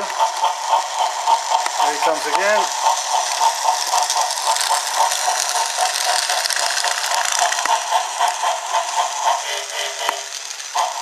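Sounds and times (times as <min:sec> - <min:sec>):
toy train clattering on track: 0:00.0 - 0:11.0
toy train motor whirring: 0:00.0 - 0:11.0.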